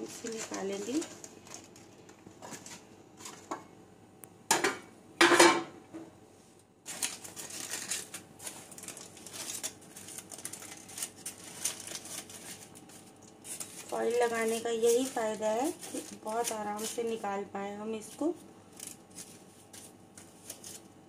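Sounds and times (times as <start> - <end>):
foil crinkling and rustling: 0.0 - 3.6, 6.8 - 21.0.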